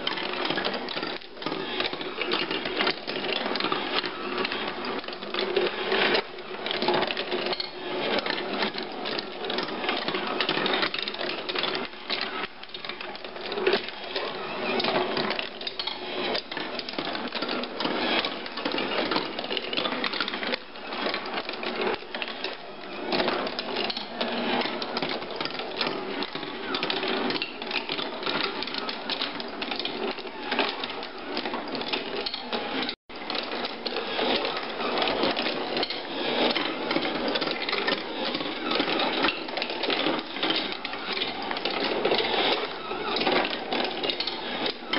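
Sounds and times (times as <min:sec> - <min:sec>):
marbles rattling on wooden tracks: 0:00.0 - 0:44.9.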